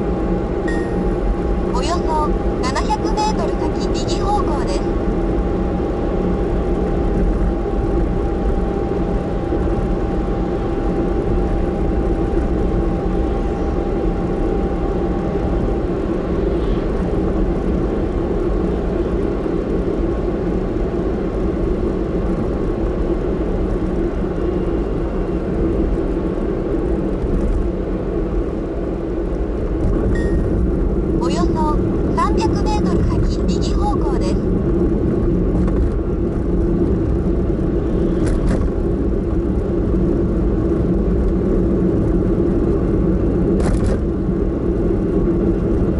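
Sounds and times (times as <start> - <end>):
car road and engine noise: 0.0 - 45.9.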